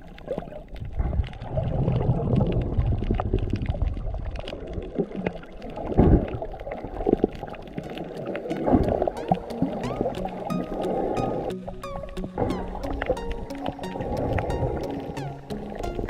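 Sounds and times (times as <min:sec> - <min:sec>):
water sloshing and gurgling: 0:00.0 - 0:16.0.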